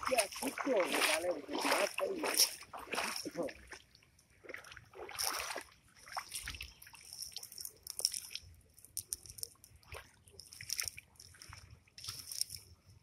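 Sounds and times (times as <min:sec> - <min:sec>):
water dripping: 0:00.0 - 0:12.7.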